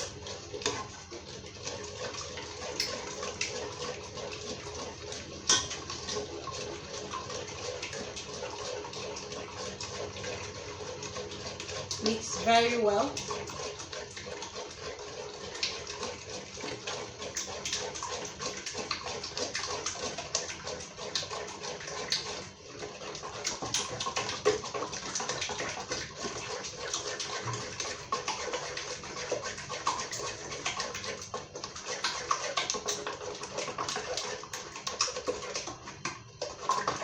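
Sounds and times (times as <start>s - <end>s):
spoon stirring thick mixture: 0.0s - 37.0s.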